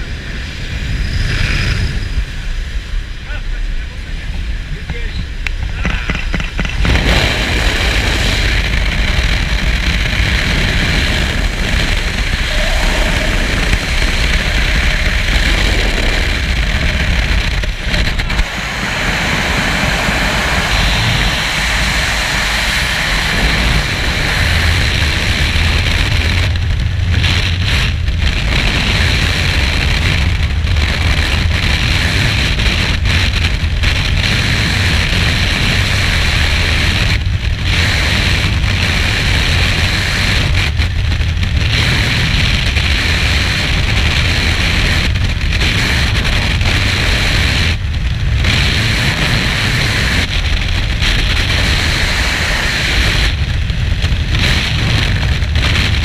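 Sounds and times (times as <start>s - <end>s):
freefall wind rushing over microphone: 0.0s - 56.0s.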